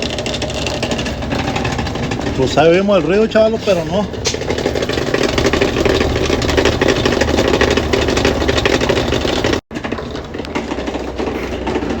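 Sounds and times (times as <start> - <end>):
rapid mechanical rattle: 0.0 - 12.0
washing machine running: 0.0 - 12.0.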